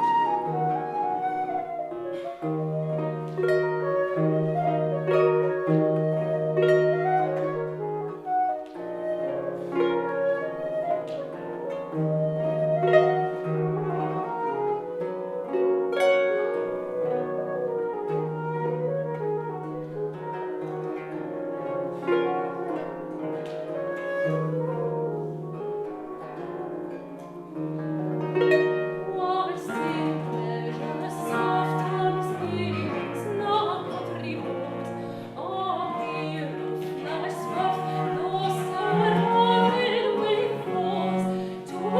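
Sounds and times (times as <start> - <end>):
baroque flute: 0.0 - 41.9
harp plucking: 0.0 - 41.9
violin: 0.0 - 41.9.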